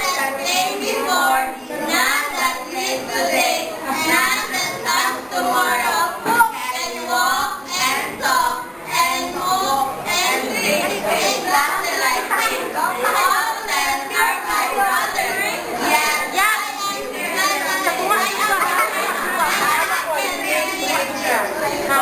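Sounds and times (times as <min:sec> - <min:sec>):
young voices chanting together: 0:00.0 - 0:22.0.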